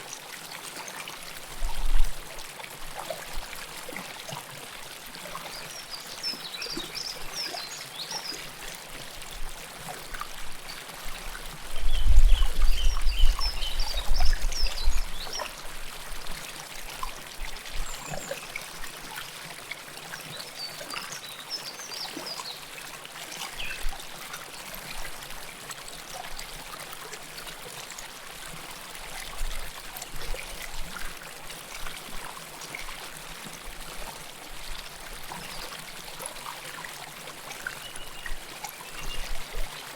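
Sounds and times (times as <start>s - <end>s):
river water gurgling over stones: 0.0s - 39.9s.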